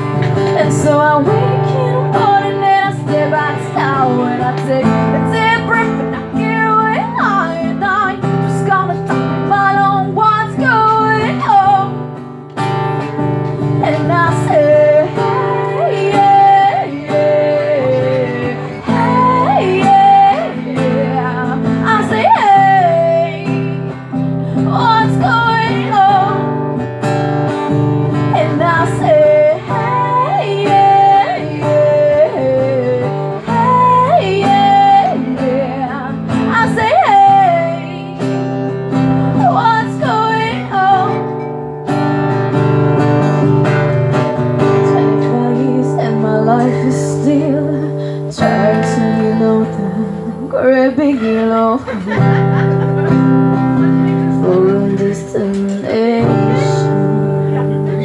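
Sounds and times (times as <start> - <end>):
person singing: 0.0 - 12.0, 13.8 - 26.8, 28.1 - 38.4, 39.2 - 41.4, 44.7 - 58.0
strummed acoustic guitar: 0.0 - 58.0.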